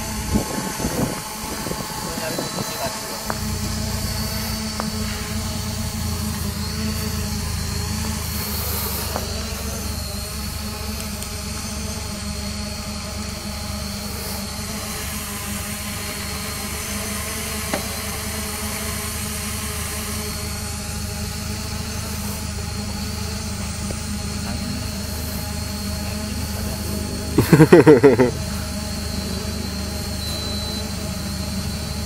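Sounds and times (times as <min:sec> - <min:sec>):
steady motor hum: 0:00.0 - 0:32.0.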